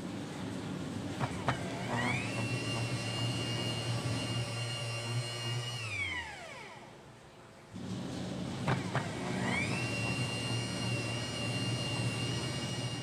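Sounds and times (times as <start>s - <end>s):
kneading motor whine: 1.1s - 7.0s, 7.8s - 13.0s.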